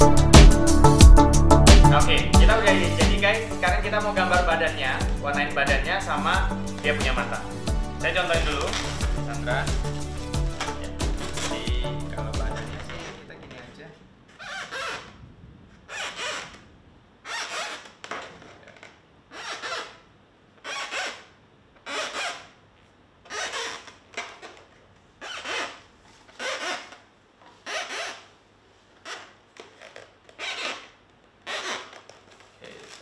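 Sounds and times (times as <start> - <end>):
marker squeaking on balloon: 2.0 - 13.7, 14.3 - 22.6, 23.2 - 33.0.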